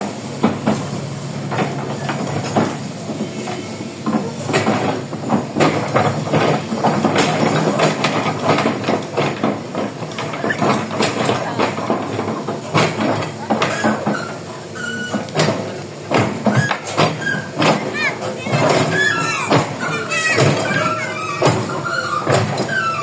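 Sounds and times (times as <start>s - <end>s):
excavator tracks clanking: 0.0s - 23.0s.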